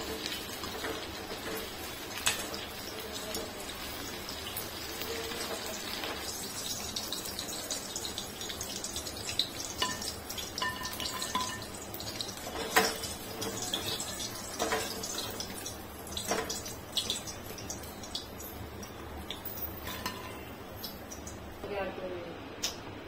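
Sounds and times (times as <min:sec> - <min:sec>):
hot oil sizzling: 0:00.0 - 0:22.1.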